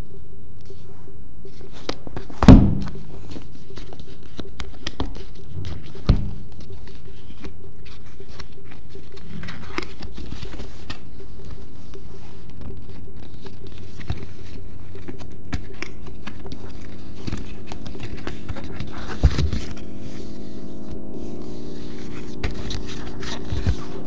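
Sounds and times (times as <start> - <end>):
scratching and crinkling paper: 0.6 - 24.0.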